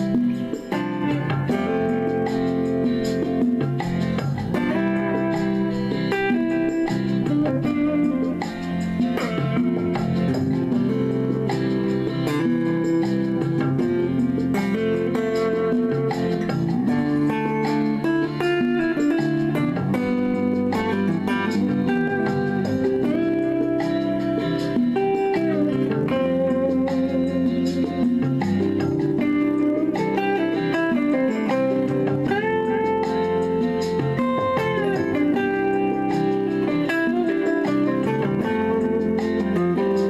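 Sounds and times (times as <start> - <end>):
backing track: 0.0 - 40.0
clean electric guitar melody: 0.0 - 40.0.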